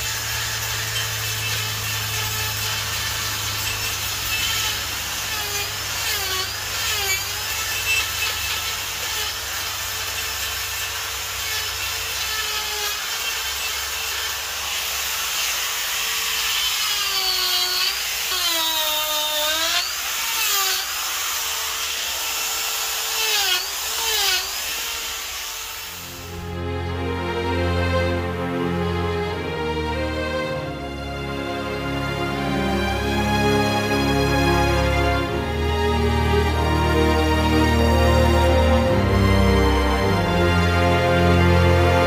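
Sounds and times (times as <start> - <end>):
die grinder cutting wood: 0.0 - 42.0.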